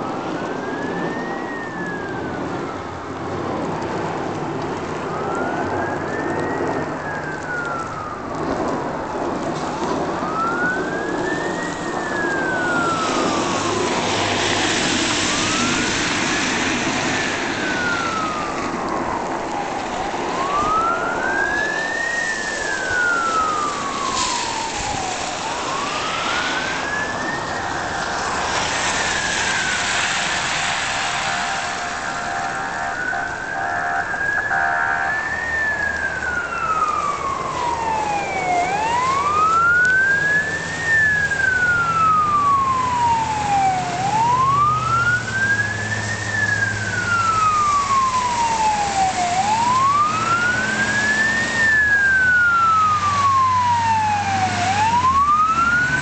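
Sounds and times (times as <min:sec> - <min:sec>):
fire truck siren wailing: 0:00.0 - 0:56.0
steady rushing noise: 0:00.0 - 0:56.0.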